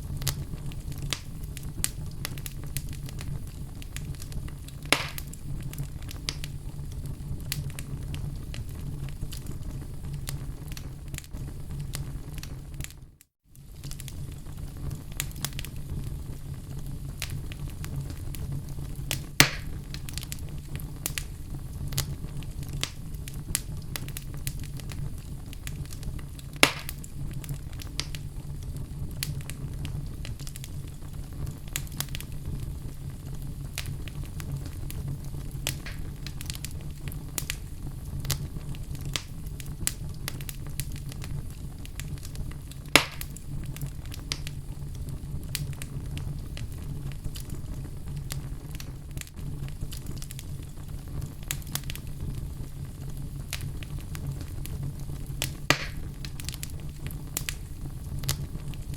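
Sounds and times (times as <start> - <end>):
fire popping: 0.0 - 58.9
fireplace fire crackling: 0.0 - 58.9.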